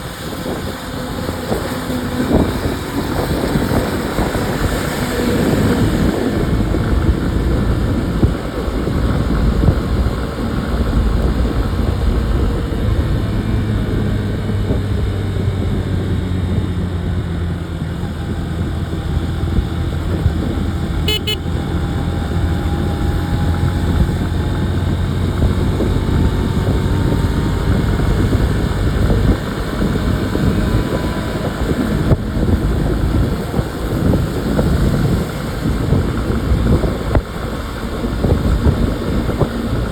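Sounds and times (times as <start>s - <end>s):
motorcycle engine running: 0.0s - 39.9s
road and wind rumble: 0.0s - 39.9s.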